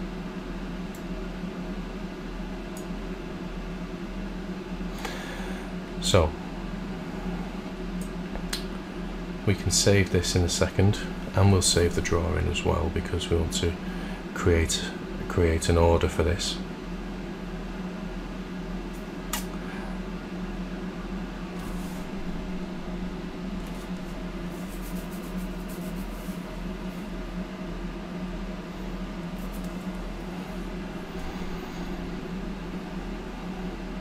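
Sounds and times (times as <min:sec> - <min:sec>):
electrical hum and hiss: 0:00.0 - 0:34.0.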